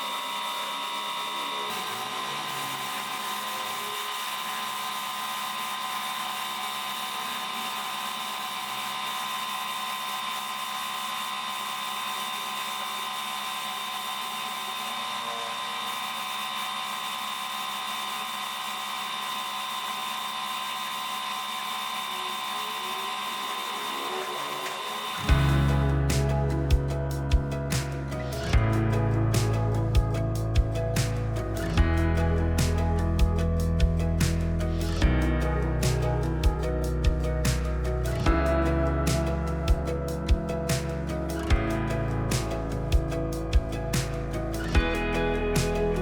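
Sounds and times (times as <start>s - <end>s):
small electric motor whining: 0.0s - 41.6s.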